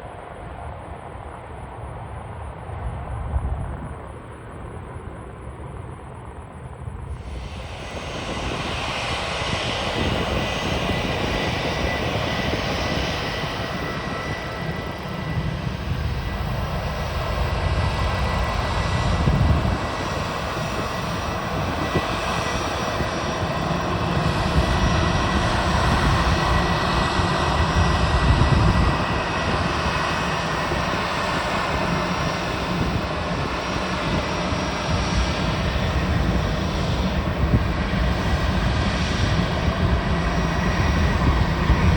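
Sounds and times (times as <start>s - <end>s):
jet engines roaring: 1.0s - 41.9s.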